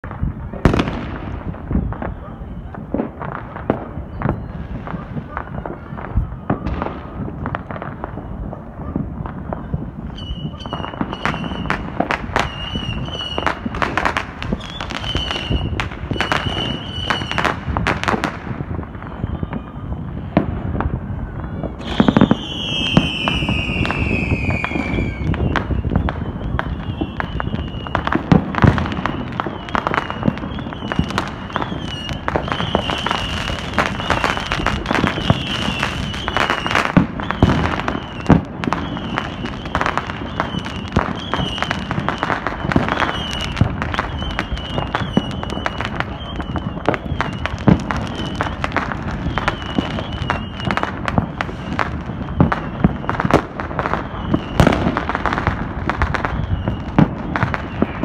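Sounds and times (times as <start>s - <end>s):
fireworks crackling and booming: 0.0s - 58.0s.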